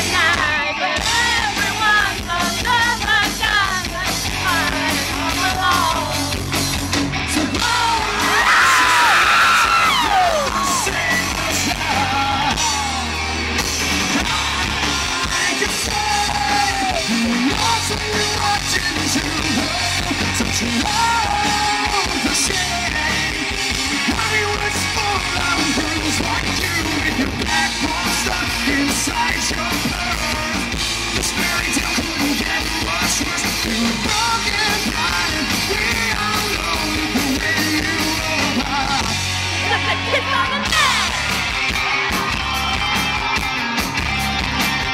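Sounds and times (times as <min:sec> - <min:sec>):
man singing: 0:00.0 - 0:06.5, 0:07.2 - 0:41.2
live rock band playing: 0:00.0 - 0:44.9.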